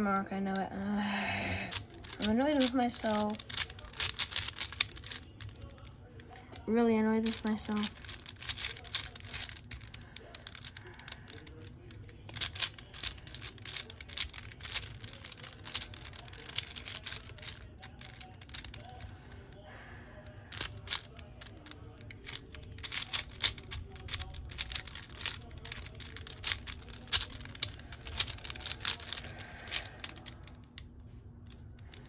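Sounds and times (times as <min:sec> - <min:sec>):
puzzle cube clicking as turned: 0:01.7 - 0:05.9, 0:07.2 - 0:11.7, 0:12.3 - 0:19.1, 0:20.5 - 0:30.9.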